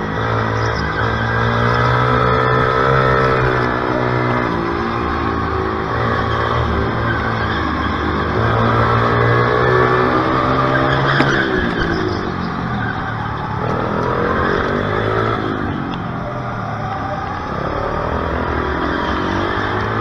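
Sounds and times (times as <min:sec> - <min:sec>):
small racing engine revving: 0:00.0 - 0:16.2, 0:16.9 - 0:20.0.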